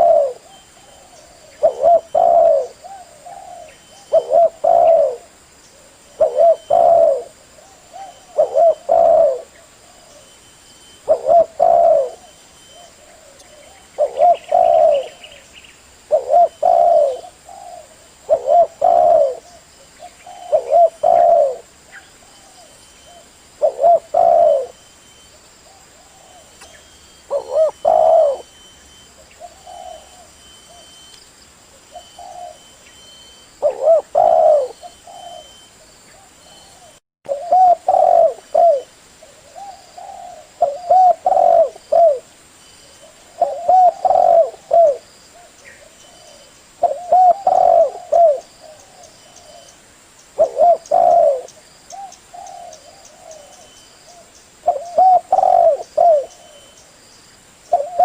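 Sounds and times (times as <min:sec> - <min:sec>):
dove cooing: 0:00.0 - 0:15.4, 0:16.1 - 0:24.9, 0:25.6 - 0:31.1, 0:31.8 - 0:42.3, 0:42.9 - 0:49.8, 0:50.4 - 0:56.8, 0:57.7 - 0:58.0.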